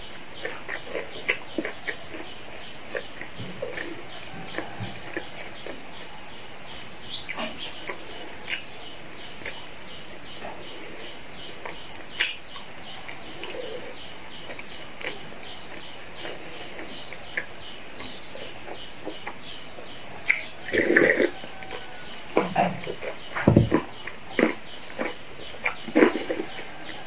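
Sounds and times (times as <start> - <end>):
chewing fries: 0.0 - 27.0.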